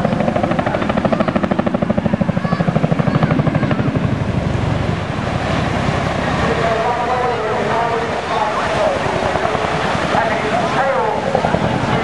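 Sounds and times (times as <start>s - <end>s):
helicopter rotors beating: 0.0s - 12.0s.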